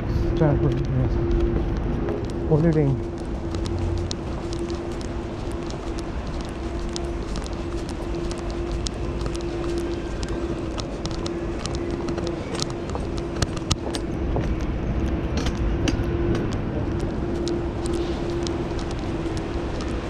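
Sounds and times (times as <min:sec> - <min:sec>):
footsteps: 0:00.0 - 0:20.0
low rumble: 0:00.0 - 0:20.0
steady hum: 0:00.0 - 0:20.0.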